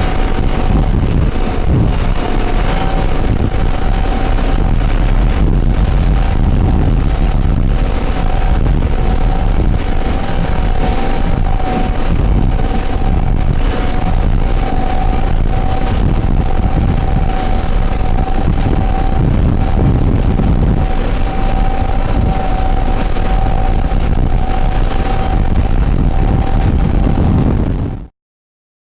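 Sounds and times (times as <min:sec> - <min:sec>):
powerboat engine drone: 0:00.0 - 0:28.1
rushing wind and water: 0:00.0 - 0:28.1
thin steady whine: 0:00.0 - 0:28.1.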